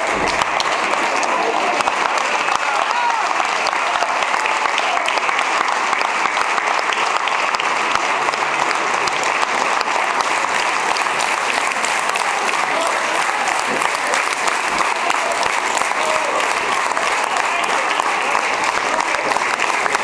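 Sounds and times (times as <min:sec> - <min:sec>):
crowd clapping: 0:00.0 - 0:20.0.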